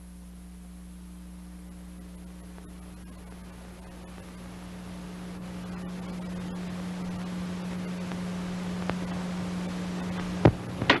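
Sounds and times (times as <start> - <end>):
film soundtrack hiss and hum: 0.0 - 11.0.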